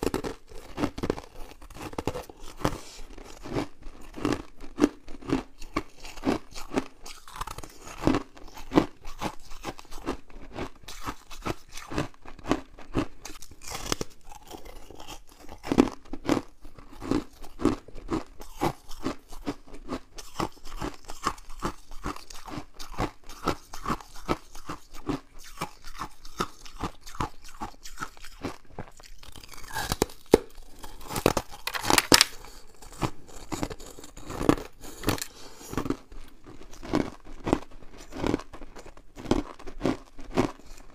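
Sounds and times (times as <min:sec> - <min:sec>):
frost being chewed crunching: 0:00.0 - 0:40.9.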